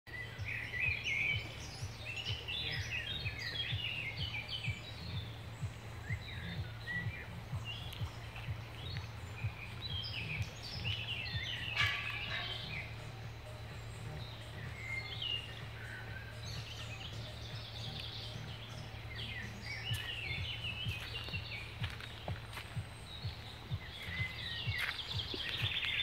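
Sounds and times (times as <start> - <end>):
songbirds singing: 0.1 - 26.0
steady low hum: 0.3 - 26.0.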